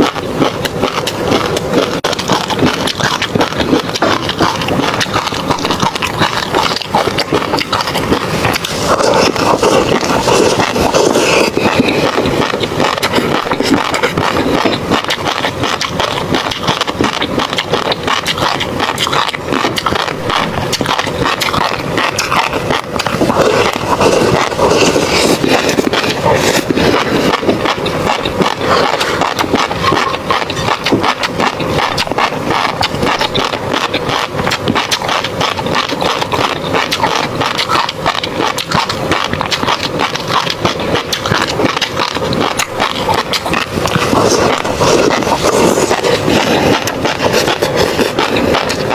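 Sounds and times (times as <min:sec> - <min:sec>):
chewing fish roe popping: 0:00.0 - 0:48.9.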